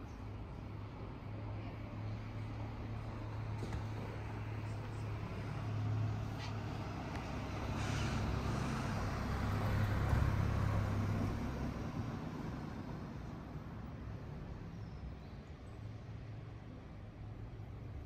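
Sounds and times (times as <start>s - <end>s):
vehicle passing with low rumble: 0.0s - 18.0s.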